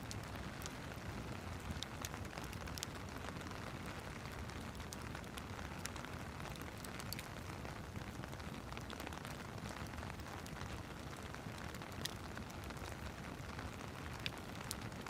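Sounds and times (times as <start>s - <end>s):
steady rain hiss: 0.0s - 15.0s
wood fire crackling: 0.0s - 15.0s.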